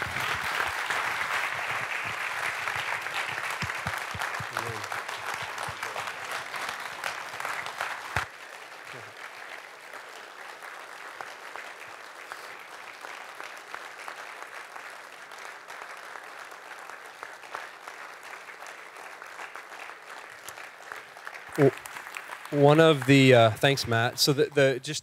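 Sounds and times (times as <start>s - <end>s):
congregation applauding: 0.0s - 25.0s.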